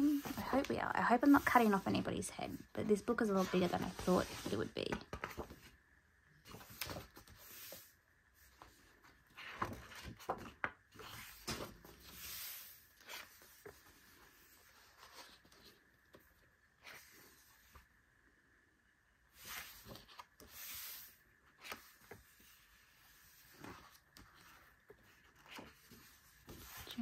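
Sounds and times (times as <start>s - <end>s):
book pages turning: 0.0s - 2.1s, 3.0s - 5.8s, 6.4s - 17.9s, 19.3s - 27.0s.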